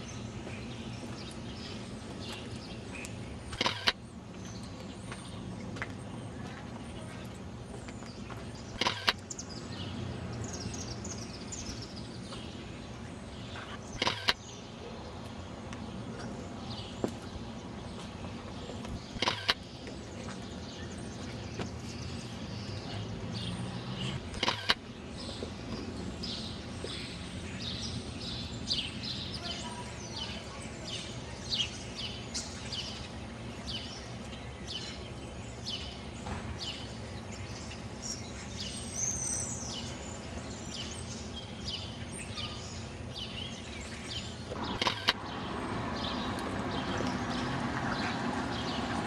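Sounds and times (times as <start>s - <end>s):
low rumble of traffic: 0.0s - 49.0s
small birds chirping: 0.0s - 49.0s.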